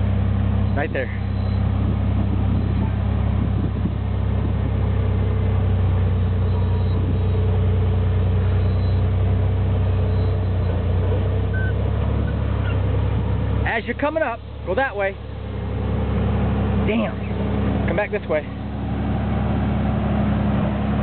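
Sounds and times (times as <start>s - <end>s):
car engine running steadily: 0.0s - 21.0s.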